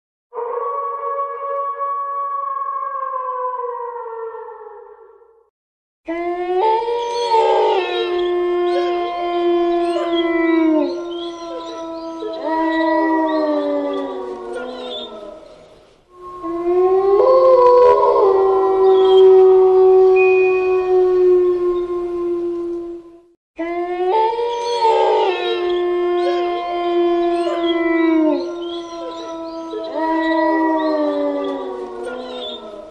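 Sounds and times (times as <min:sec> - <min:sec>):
dogs howling: 0:06.1 - 0:32.9.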